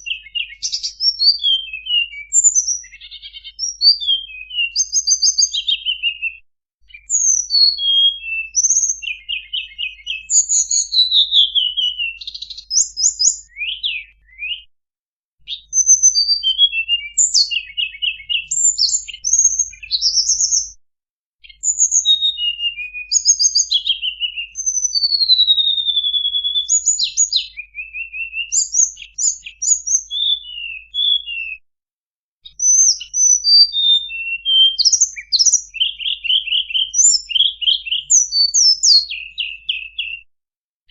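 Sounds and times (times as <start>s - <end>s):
bird chirps trills and whistles: 0.0s - 14.7s, 15.4s - 20.8s, 21.4s - 31.6s, 32.4s - 40.3s.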